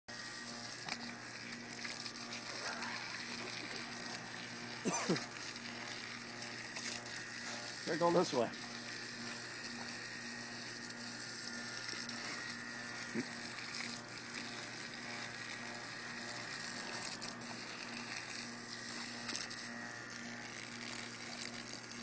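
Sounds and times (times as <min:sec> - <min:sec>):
hose water jet hissing on grass: 0:00.2 - 0:22.0.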